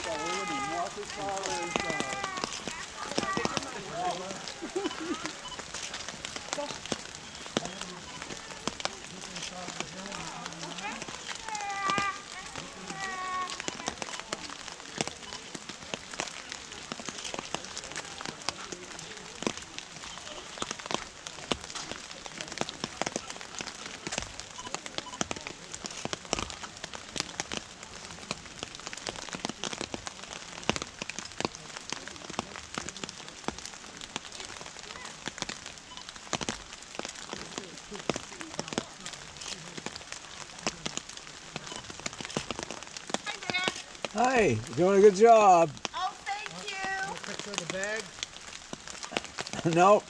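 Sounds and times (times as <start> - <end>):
raindrops clicking: 0.0 - 50.0
steady rain hiss: 0.0 - 50.0.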